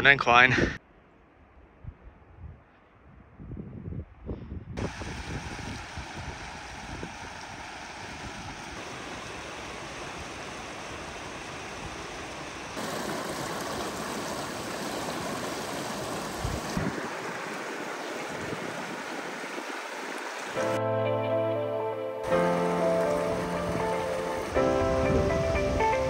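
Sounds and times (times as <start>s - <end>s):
rushing water: 4.8s - 26.0s.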